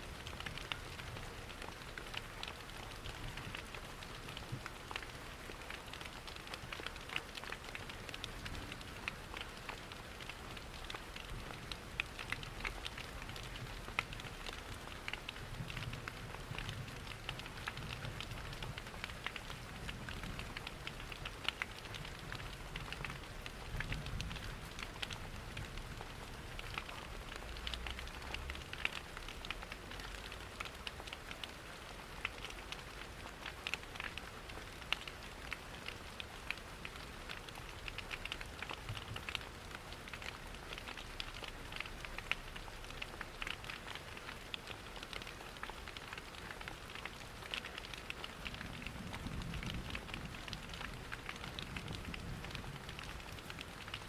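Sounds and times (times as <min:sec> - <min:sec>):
steady rain pattering: 0:00.0 - 0:54.0
wood fire crackling and popping: 0:00.2 - 0:31.5, 0:32.2 - 0:54.0.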